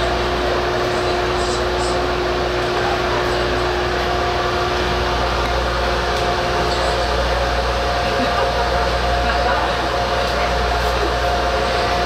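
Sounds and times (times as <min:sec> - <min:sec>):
electric train equipment hum: 0:00.0 - 0:12.0.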